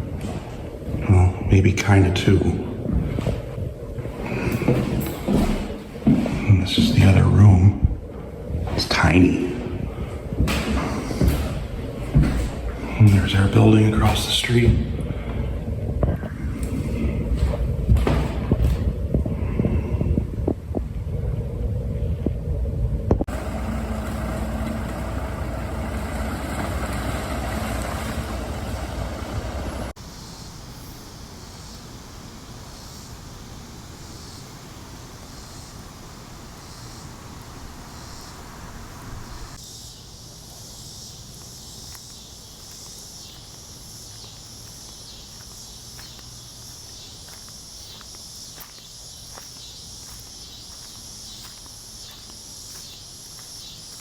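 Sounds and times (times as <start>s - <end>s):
outdoor ambience: 0.0s - 54.0s
cicadas chorus: 0.7s - 21.2s, 23.3s - 54.0s.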